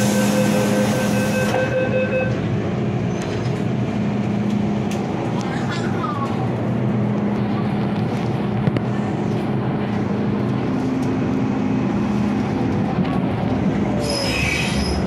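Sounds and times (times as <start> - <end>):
train wheels rumbling on rail: 2.2 - 15.0.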